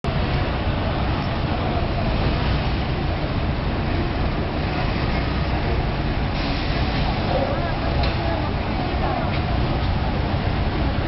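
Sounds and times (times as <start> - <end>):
engines rumbling: 0.0 - 11.0
road traffic: 0.0 - 11.0.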